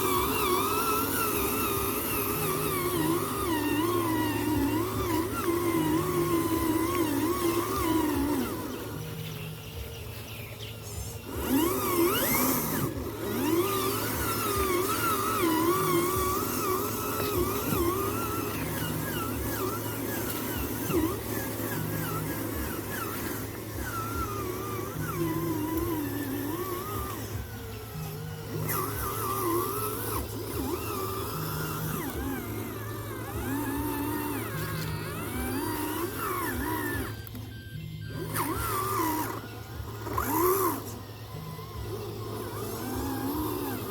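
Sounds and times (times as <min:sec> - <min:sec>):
gliding melody: 0:00.0 - 0:43.9
small electric motors whining: 0:00.0 - 0:43.9.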